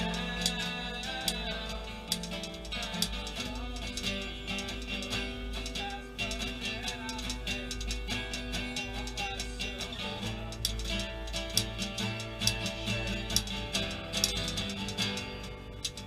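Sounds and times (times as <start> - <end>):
acoustic guitar strumming: 0.0 - 16.0
typewriter keys clacking: 0.0 - 16.0.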